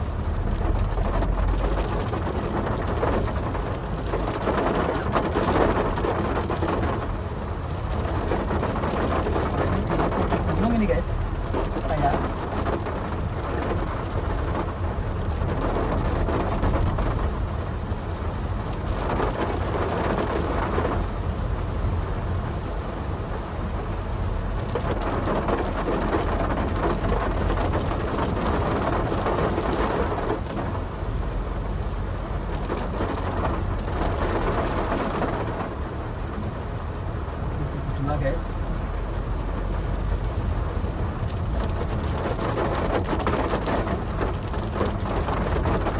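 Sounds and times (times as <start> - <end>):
engine and road rumble: 0.0 - 45.9
rain on car roof: 0.0 - 45.9.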